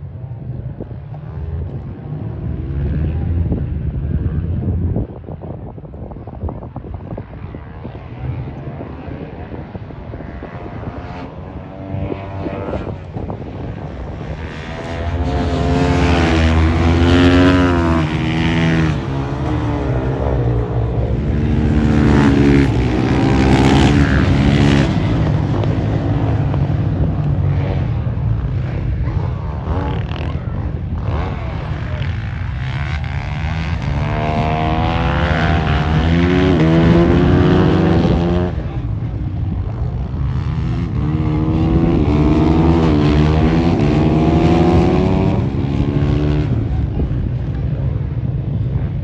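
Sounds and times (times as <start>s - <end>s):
motorcycles racing past: 6.5s - 49.0s.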